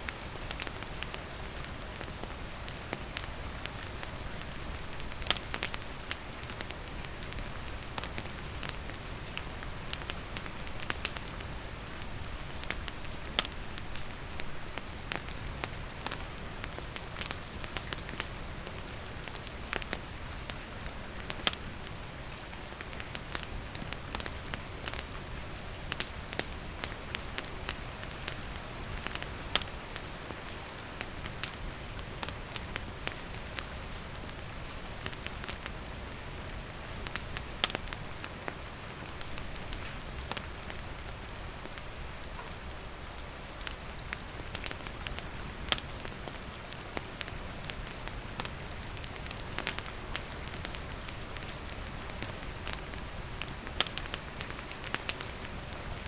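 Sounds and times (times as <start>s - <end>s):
campfire crackling and popping: 0.0s - 56.0s
rain falling: 0.0s - 56.0s.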